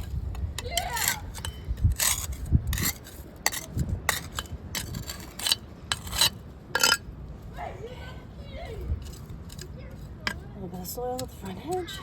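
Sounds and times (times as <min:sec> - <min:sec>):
hoe scraping gritty soil: 0:00.0 - 0:07.0, 0:08.9 - 0:12.0.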